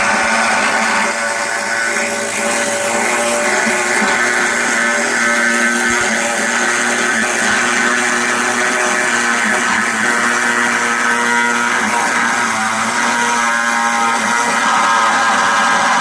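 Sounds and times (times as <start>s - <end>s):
power tool motor running: 0.0s - 16.0s.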